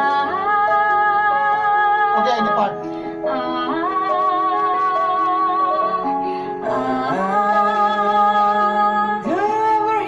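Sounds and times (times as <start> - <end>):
instrumental backing music: 0.0 - 10.0
woman singing a ballad: 0.0 - 10.0.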